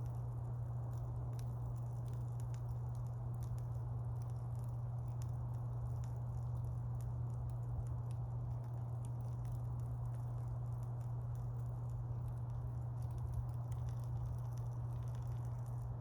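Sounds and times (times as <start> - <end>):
burning wood crackling and popping: 0.0 - 16.0
low rush of flame: 0.0 - 16.0.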